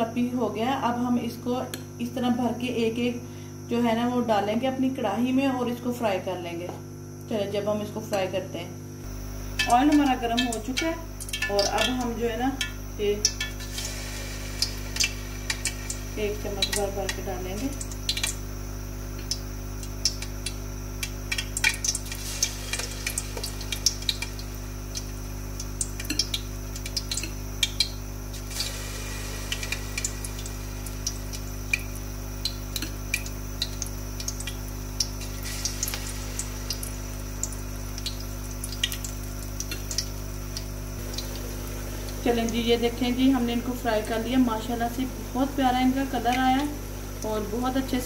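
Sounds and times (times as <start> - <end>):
batter frying with crackles and pops: 9.0 - 48.0.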